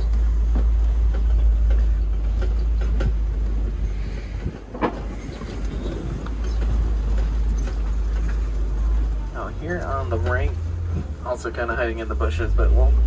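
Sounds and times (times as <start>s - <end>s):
faint rattles: 0.0s - 13.0s
truck driving low rumble: 0.0s - 13.0s.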